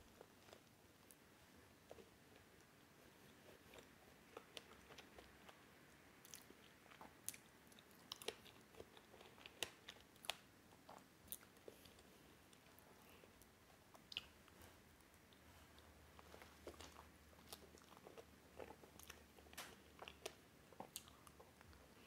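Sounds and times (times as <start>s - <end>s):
person chewing food: 1.8s - 22.0s.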